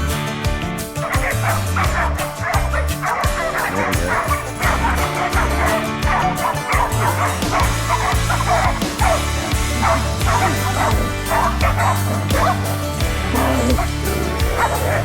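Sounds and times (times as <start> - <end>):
background music with bass line: 0.0 - 15.0
dogs barking and yelping: 0.0 - 15.0.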